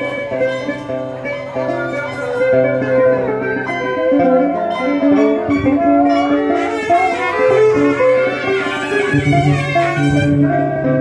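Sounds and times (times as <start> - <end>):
string ensemble playing: 0.0 - 10.8.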